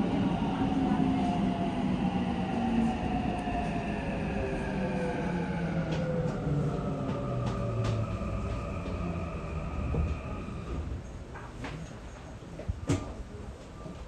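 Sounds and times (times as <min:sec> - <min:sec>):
subway train rumble and motor whine: 0:00.0 - 0:14.0.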